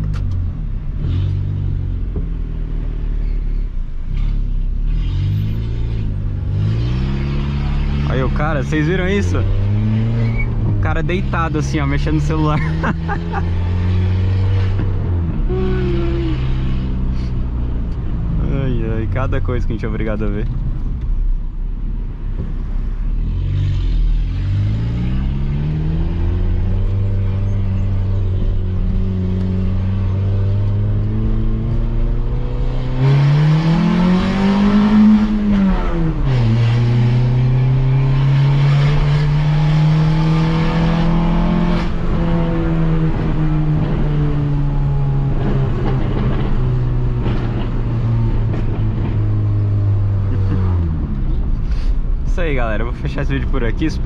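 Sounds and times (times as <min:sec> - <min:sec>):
car engine through loud exhaust: 0:00.0 - 0:54.0.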